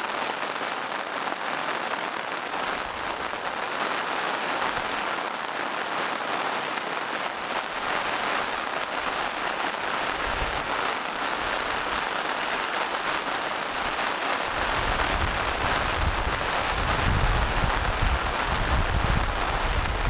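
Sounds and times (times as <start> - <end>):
rain on leaves and rocks: 0.0 - 20.0.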